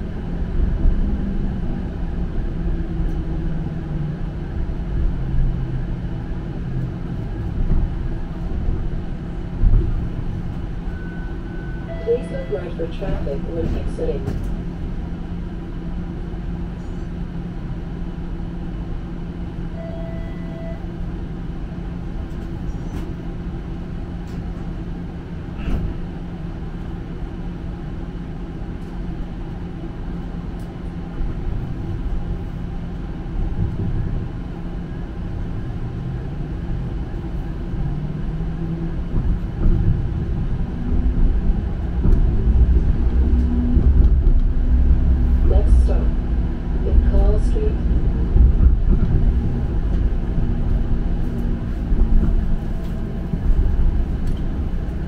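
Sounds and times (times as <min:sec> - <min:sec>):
streetcar motor whine: 0:00.0 - 0:55.0
streetcar running rumble: 0:00.0 - 0:55.0.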